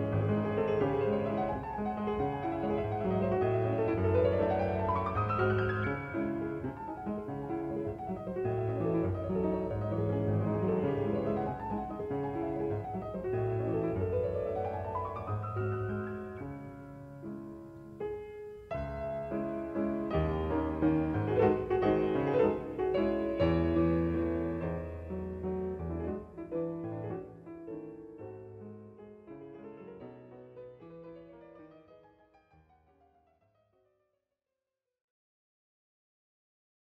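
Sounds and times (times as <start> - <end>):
solo piano music: 0.0 - 33.7.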